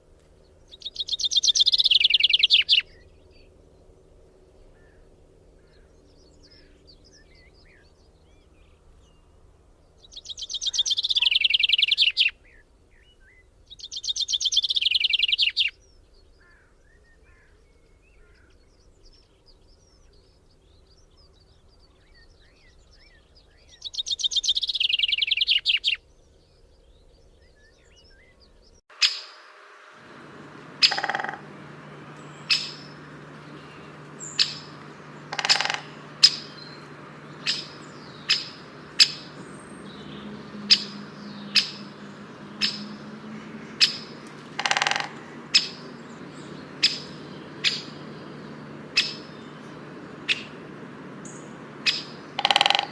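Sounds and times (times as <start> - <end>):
faint bird chirping: 0.0 - 52.9
bird singing trilled song: 0.5 - 4.0, 5.6 - 52.9.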